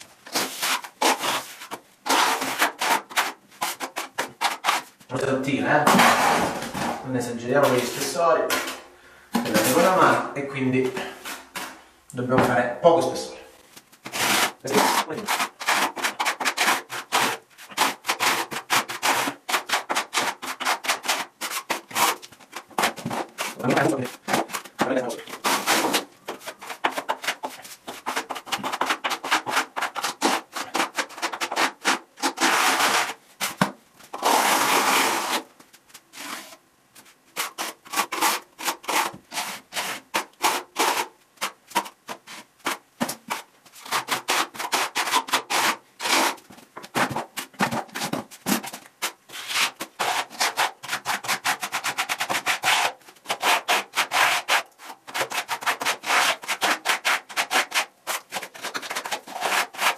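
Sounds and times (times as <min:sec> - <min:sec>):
spatula scraping plaster on wall: 0:00.2 - 0:05.0, 0:05.8 - 0:07.0, 0:07.6 - 0:10.1, 0:14.0 - 0:35.5, 0:36.1 - 0:36.6, 0:37.3 - 0:59.9.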